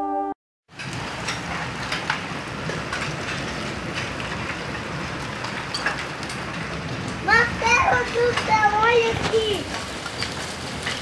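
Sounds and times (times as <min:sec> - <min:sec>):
hail and rain falling: 0:00.7 - 0:11.0
hailstones striking: 0:00.7 - 0:11.0.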